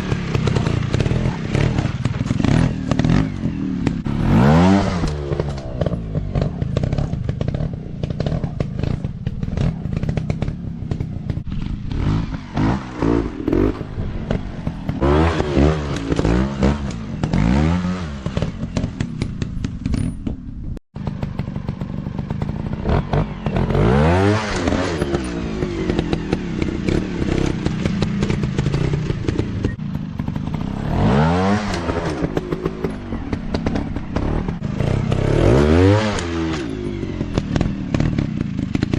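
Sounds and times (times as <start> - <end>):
dirt bike engines revving: 0.0 - 19.9, 21.0 - 38.9.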